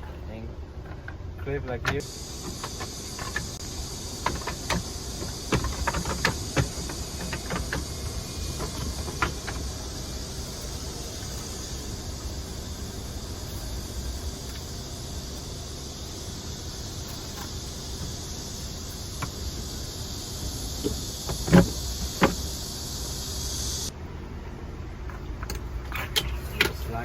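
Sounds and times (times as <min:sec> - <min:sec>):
steady hiss: 0:01.5 - 0:24.0.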